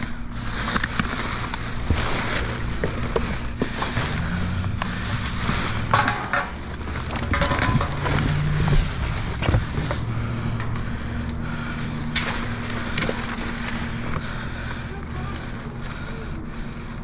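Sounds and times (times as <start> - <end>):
plastic bags crinkling: 0.0 - 16.3
steady low hum: 0.0 - 17.0.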